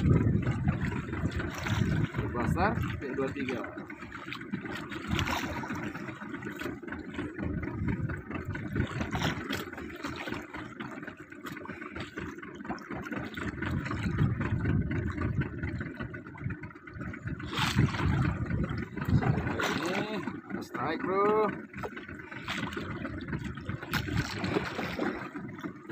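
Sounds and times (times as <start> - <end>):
boat engine idling: 0.0 - 25.9.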